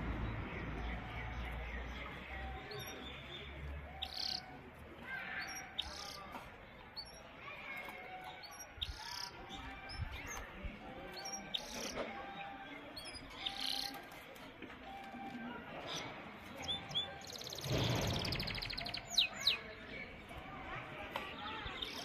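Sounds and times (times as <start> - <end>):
canaries chirping and singing: 0.0 - 14.5, 15.2 - 22.0.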